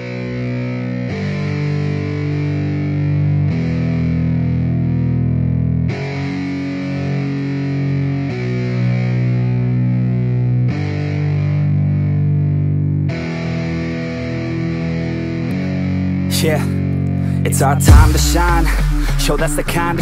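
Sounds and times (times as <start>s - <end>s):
distorted electric guitar chords: 0.0s - 20.0s.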